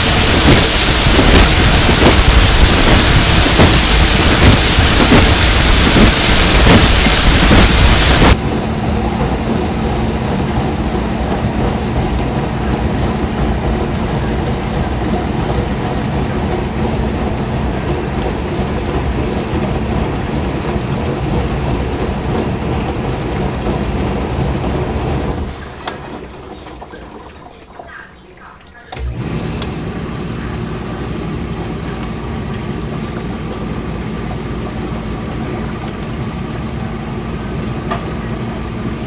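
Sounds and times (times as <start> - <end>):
pump hum: 0.0 - 39.0
water spraying in dishwasher: 0.0 - 39.0.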